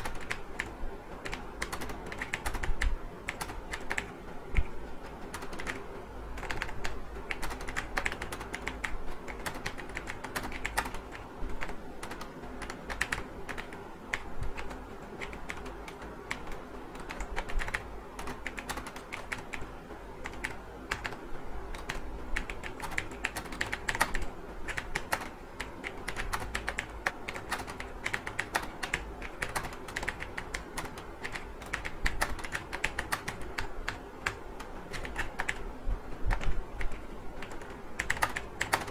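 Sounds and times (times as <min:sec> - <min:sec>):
fast typing on computer keyboard: 0:00.0 - 0:38.9.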